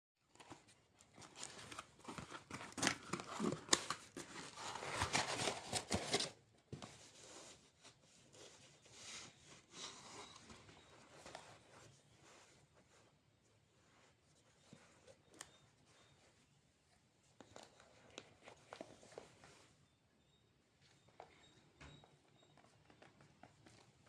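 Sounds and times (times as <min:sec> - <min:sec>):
rustling and handling: 0:00.2 - 0:24.0.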